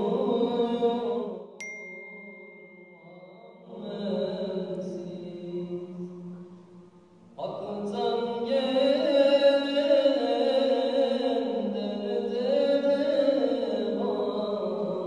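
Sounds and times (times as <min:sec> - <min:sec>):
person singing unaccompanied hymn: 0:00.0 - 0:15.0.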